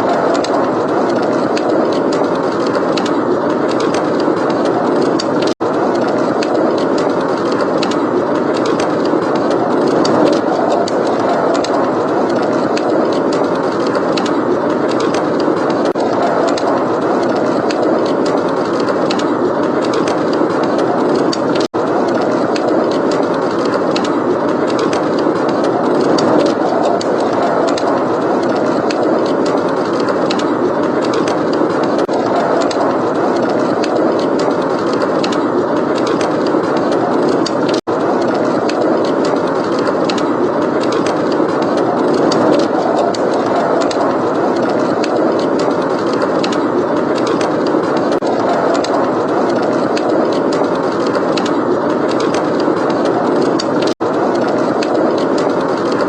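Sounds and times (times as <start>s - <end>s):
blizzard wind blowing: 0.0s - 56.0s
wood fire crackling: 0.0s - 56.0s.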